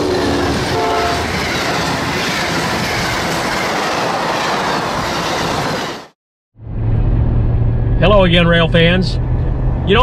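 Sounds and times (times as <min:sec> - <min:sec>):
passenger train rolling past: 0:00.0 - 0:10.0.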